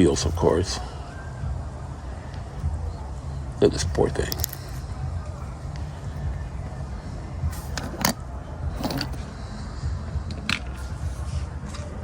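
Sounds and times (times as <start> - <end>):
steady low rumble: 1.1 - 11.8.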